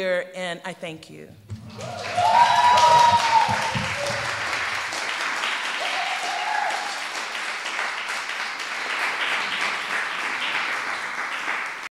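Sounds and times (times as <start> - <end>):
audience applauding: 1.5 - 11.9.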